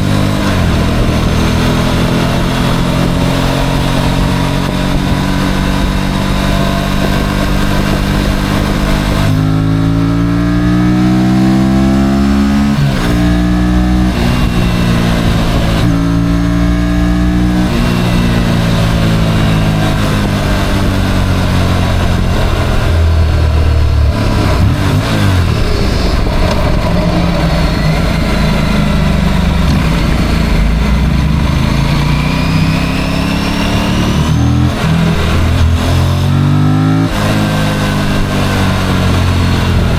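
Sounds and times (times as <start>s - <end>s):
motorcycle engine accelerating: 0.0s - 39.9s
rushing wind noise: 0.0s - 39.9s.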